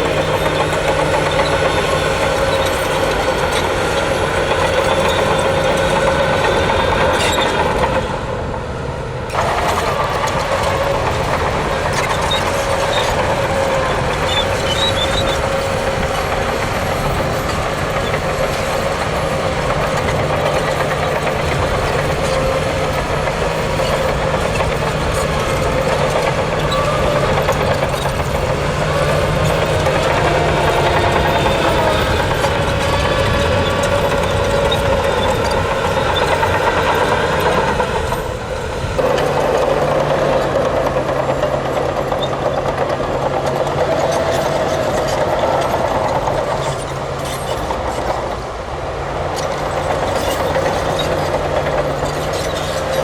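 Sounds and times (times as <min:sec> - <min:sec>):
heavy diesel machinery engines: 0:00.0 - 0:53.0.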